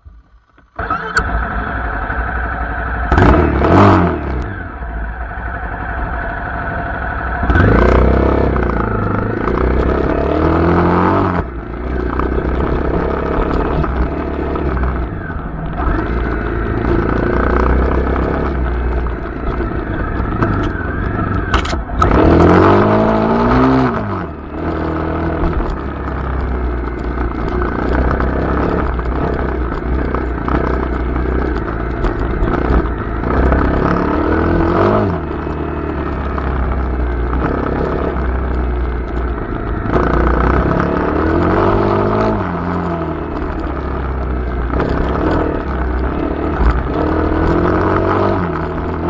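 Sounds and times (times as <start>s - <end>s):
dirt bike engine revving: 0.8s - 49.0s.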